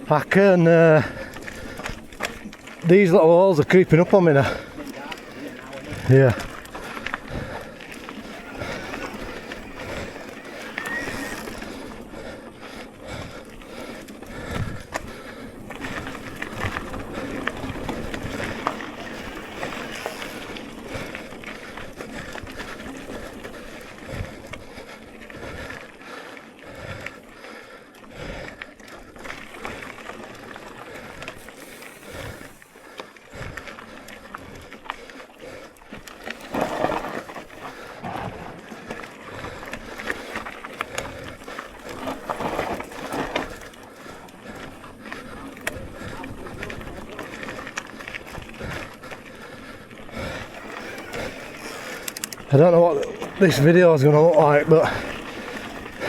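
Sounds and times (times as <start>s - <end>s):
bike knocking and rattling: 0.0s - 25.9s, 28.2s - 56.0s
bike tyres rolling on dirt: 0.0s - 56.0s.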